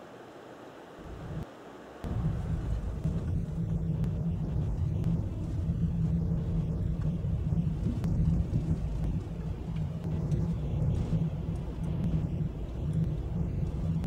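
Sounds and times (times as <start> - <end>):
vehicle engine and tyres rumbling: 2.0 - 14.0.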